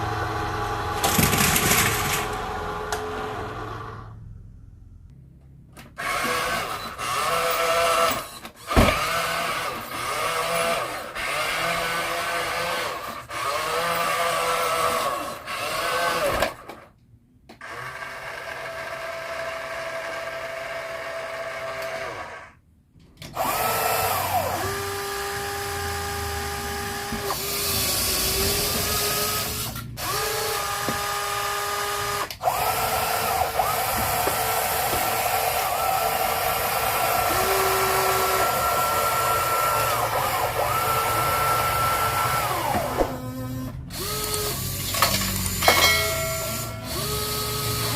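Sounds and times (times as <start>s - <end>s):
toy electric motors whining: 0.0s - 4.2s, 5.8s - 16.9s, 17.5s - 22.6s, 23.2s - 47.9s.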